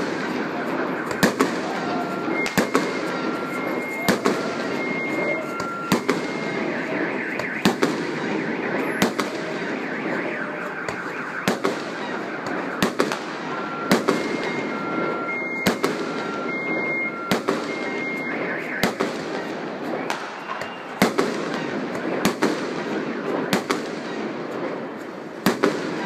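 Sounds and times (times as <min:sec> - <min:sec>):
fireworks bangs: 0:00.0 - 0:26.0
steady noisy background: 0:00.0 - 0:26.0
two-tone alarm beeping: 0:00.0 - 0:26.0.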